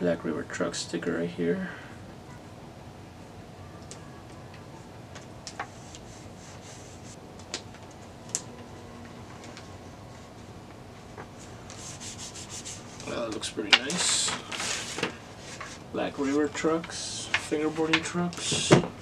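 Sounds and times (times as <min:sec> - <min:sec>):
low room noise: 0:00.0 - 0:19.0.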